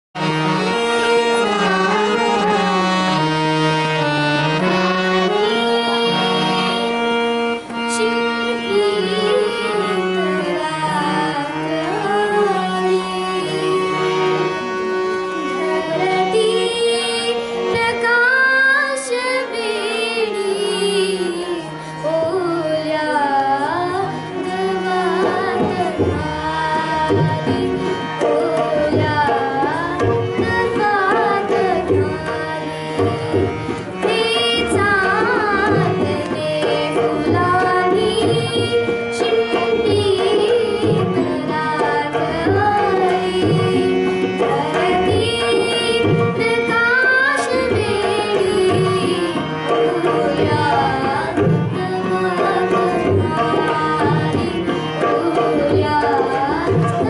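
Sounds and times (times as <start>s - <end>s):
harmonium: 0.2s - 57.0s
tabla rhythm: 0.2s - 57.0s
girl singing: 4.6s - 7.1s, 7.9s - 14.5s, 15.1s - 57.0s.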